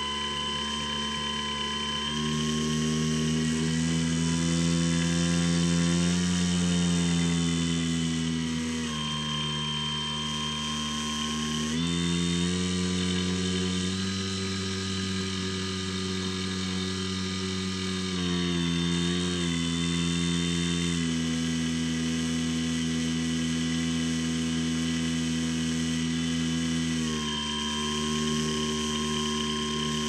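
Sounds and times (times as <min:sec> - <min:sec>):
electric motor and propeller whine: 0:00.0 - 0:30.0.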